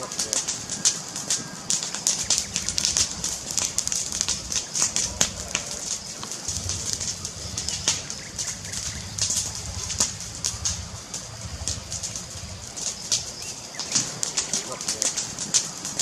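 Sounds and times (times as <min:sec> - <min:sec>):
fire crackling and popping: 0:00.0 - 0:16.0
low rumble of fire: 0:00.0 - 0:16.0.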